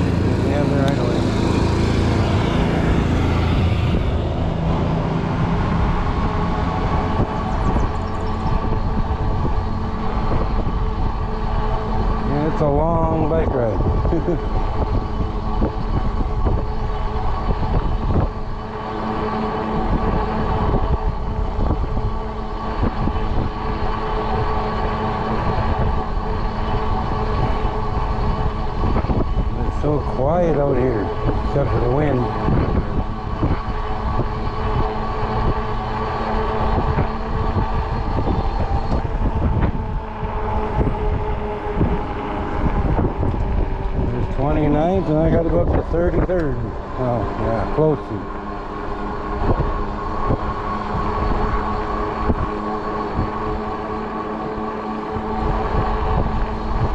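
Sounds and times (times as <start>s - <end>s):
electric bike motor hum: 0.0s - 56.9s
wind rumbling on microphone: 0.0s - 56.9s.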